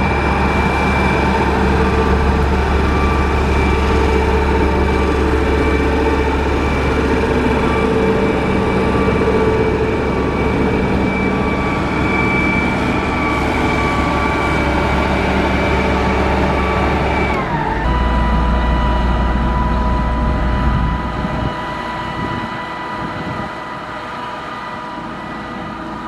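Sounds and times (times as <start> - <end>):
diesel engine drone with whine: 0.0 - 26.0.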